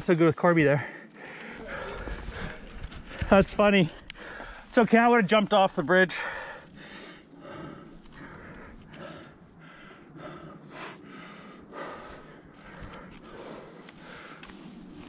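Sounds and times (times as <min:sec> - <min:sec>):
person breathing hard: 0:00.8 - 0:04.8, 0:06.1 - 0:15.0.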